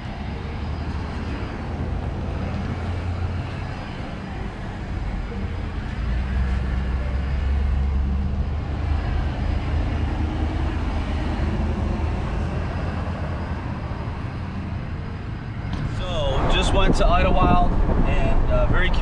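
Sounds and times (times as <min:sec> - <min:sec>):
pickup truck engine and road rumble: 0:00.0 - 0:19.0.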